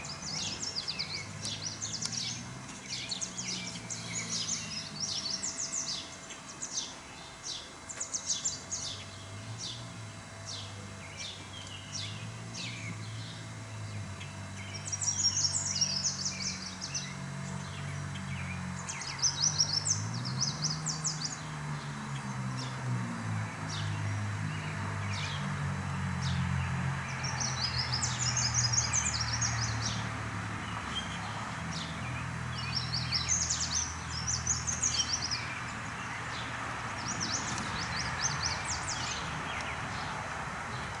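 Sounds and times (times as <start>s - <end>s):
low wavering drone: 0.0s - 41.0s
songbirds chirping and singing: 0.0s - 41.0s.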